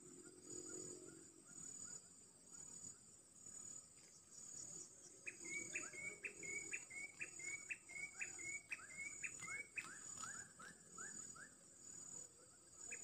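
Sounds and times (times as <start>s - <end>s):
insects droning: 0.0s - 13.0s
short insect chirps: 0.4s - 13.0s.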